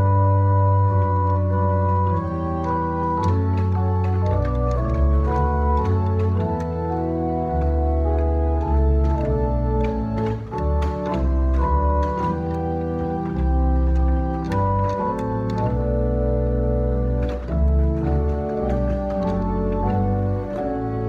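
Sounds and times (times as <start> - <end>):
slow organ music: 0.0 - 21.0.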